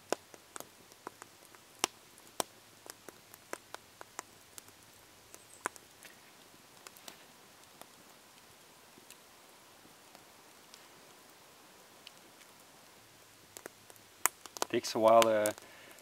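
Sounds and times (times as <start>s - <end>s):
campfire crackling: 0.0s - 16.0s
faint steady hiss: 0.0s - 16.0s.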